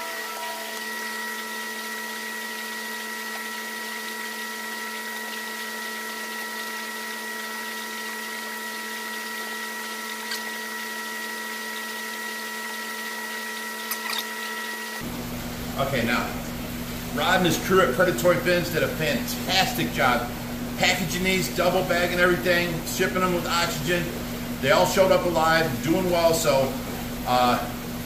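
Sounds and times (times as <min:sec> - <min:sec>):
aquarium pumps humming: 0:00.0 - 0:28.0.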